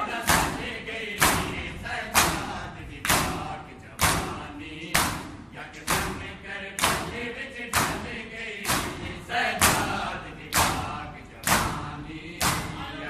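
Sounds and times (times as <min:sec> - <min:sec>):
group chanting: 0:00.0 - 0:13.0
men slapping chests in unison: 0:00.2 - 0:13.0.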